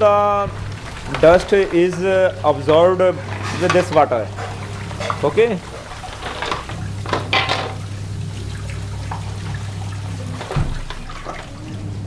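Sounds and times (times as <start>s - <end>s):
steady low hum: 0.0s - 12.0s
water sloshing and splashing: 0.0s - 12.0s.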